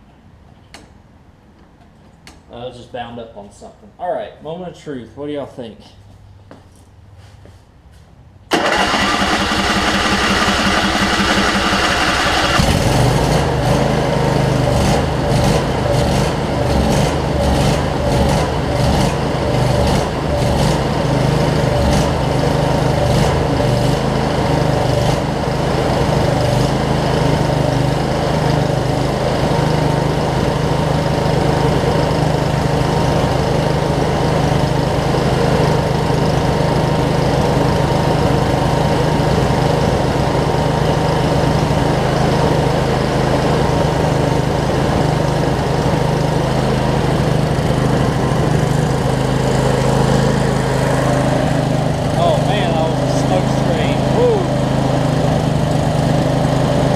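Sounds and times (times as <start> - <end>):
mower engine running: 8.5 - 56.9.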